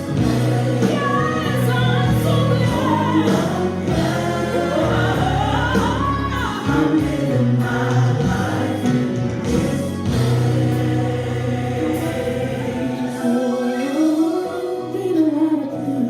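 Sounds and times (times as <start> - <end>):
bass and keyboard chords: 0.0 - 16.0
gospel choir singing: 0.0 - 16.0.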